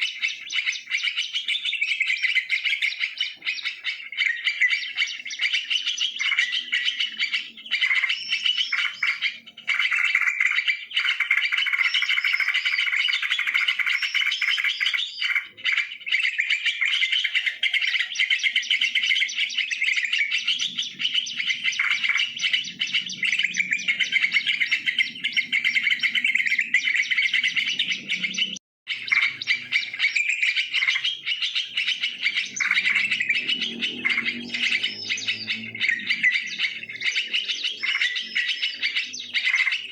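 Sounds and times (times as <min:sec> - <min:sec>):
birds chattering and singing: 0:00.0 - 0:39.9.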